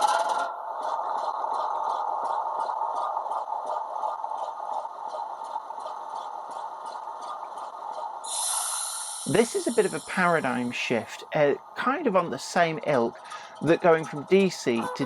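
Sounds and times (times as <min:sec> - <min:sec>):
diesel engine drone with clatter: 0:00.0 - 0:15.0.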